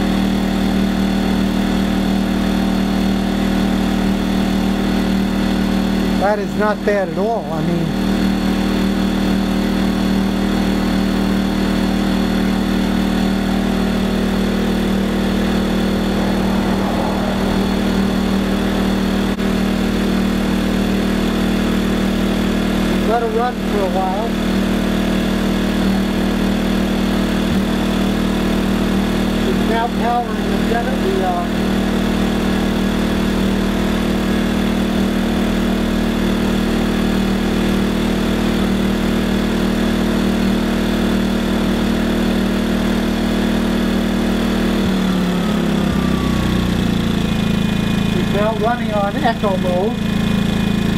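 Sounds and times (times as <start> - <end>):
generator engine humming: 0.0 - 50.9.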